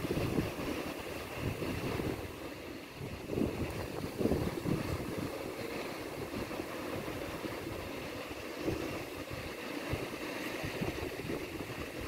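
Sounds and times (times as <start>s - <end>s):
waves breaking on beach: 0.0s - 12.0s
wind rumbling on microphone: 0.0s - 12.0s.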